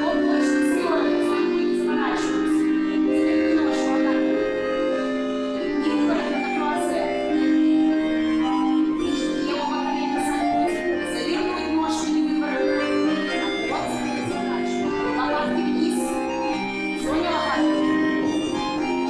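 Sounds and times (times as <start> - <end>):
accordion playing slow chords: 0.0 - 19.0.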